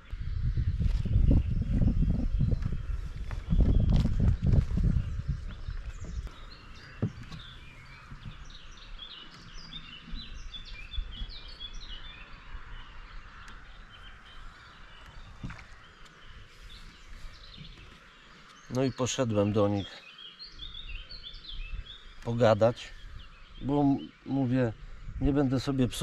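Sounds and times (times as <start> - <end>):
small birds chirping and trilling: 0.0 - 26.0.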